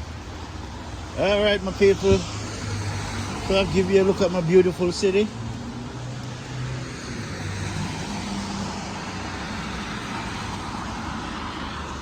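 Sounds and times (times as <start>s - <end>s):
cars going by: 0.0s - 12.0s.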